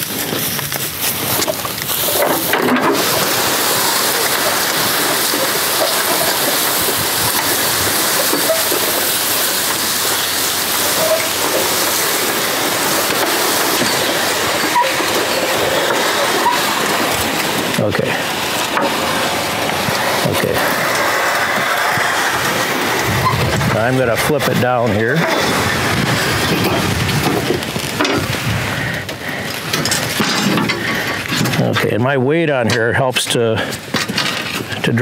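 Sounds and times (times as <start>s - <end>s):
metal implement scraping over grass: 0.0s - 35.0s.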